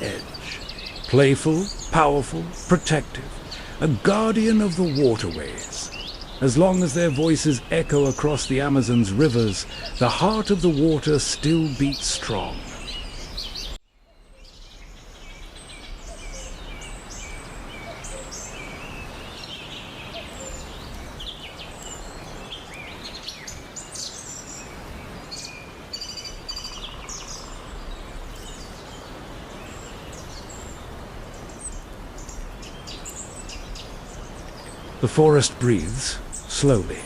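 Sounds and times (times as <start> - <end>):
background hiss: 0.0 - 37.0
birds chirping and whistling: 0.0 - 37.0.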